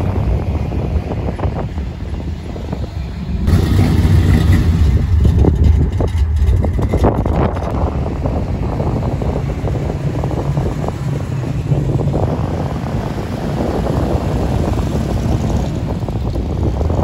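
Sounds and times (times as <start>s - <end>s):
car engine rumble: 0.0s - 17.0s
deeper pulsing engine rumble: 0.0s - 17.0s.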